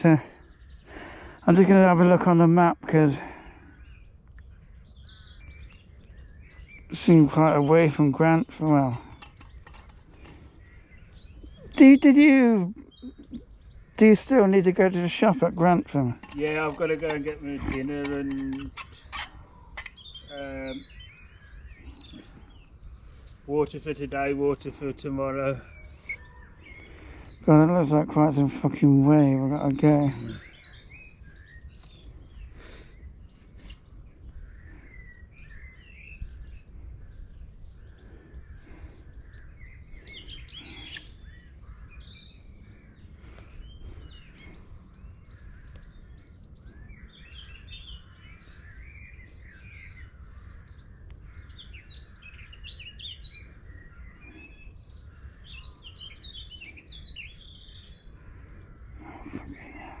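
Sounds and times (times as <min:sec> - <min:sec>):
birds singing and chirping: 0:00.0 - 1:00.0.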